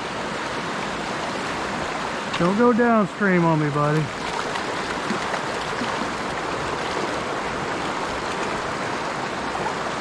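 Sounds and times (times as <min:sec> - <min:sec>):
stream rushing over stones: 0:00.0 - 0:10.0.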